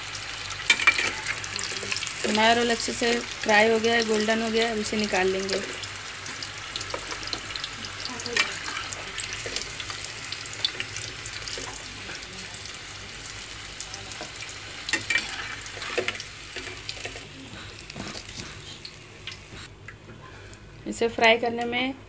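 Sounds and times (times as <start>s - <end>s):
deep-frying crackling sizzle: 0.0s - 22.0s.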